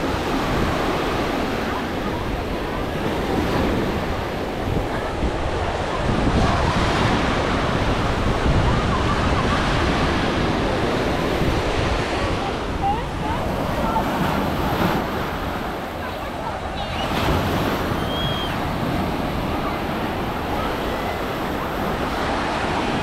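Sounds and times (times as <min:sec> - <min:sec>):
surf breaking on shore: 0:00.0 - 0:23.0
wind rumbling on microphone: 0:00.0 - 0:23.0.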